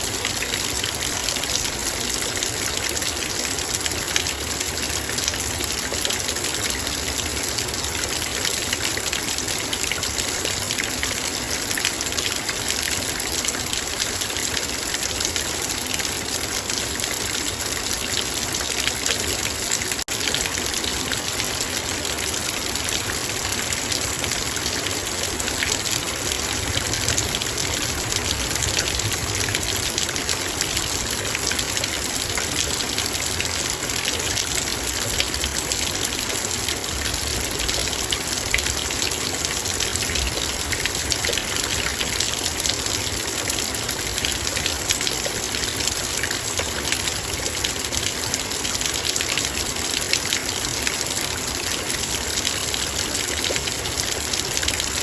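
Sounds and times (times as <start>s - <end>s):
heavy rain on a metal bowl: 0.0s - 55.0s.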